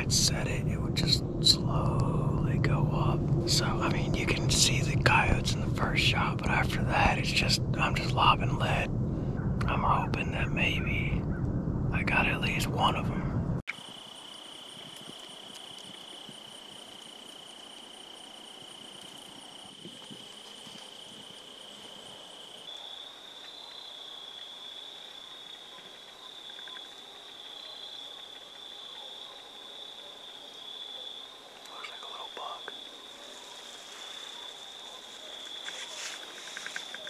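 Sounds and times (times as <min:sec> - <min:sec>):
crickets trilling: 0:00.0 - 0:08.8, 0:13.7 - 0:37.0.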